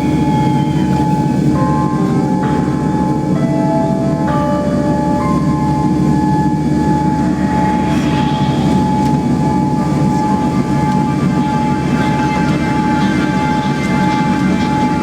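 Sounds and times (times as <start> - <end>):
aircraft engine rumble: 0.0 - 15.0
steady whining tones: 0.0 - 15.0.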